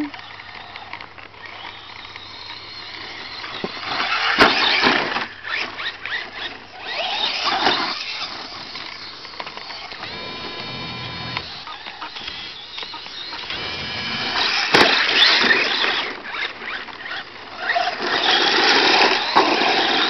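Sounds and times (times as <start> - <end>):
toy truck motor whining: 0.0 - 20.0.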